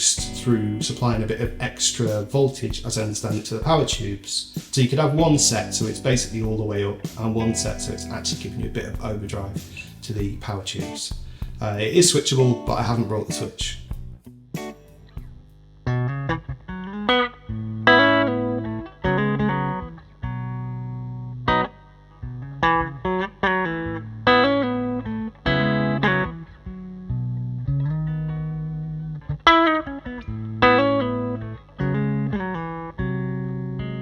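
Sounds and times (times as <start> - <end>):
electric guitar notes and chords: 0.0 - 34.0.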